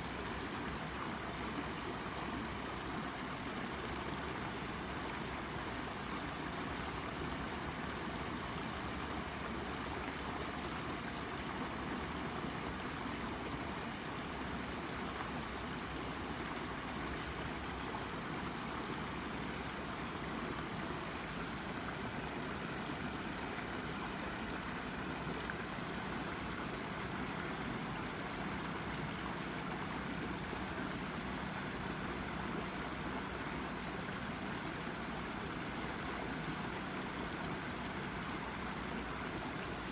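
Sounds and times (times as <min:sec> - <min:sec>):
brook babbling over rock: 0:00.0 - 0:39.9.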